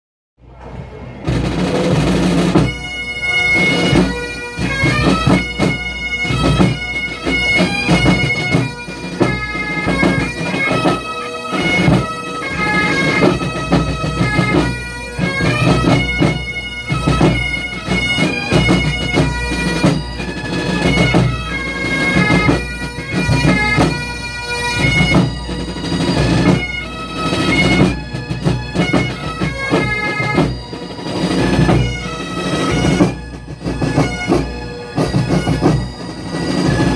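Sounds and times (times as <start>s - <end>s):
drums beating: 0.4s - 36.9s
bagpipes playing: 1.3s - 36.9s.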